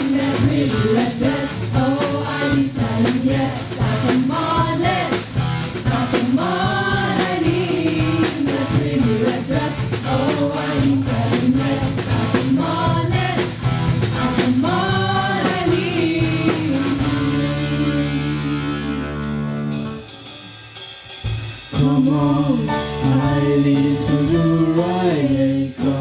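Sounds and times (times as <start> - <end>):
singers in harmony: 0.0 - 19.2, 21.8 - 26.0
guitars and bass: 0.0 - 20.6, 21.6 - 26.0
drum kit beat: 0.0 - 26.0.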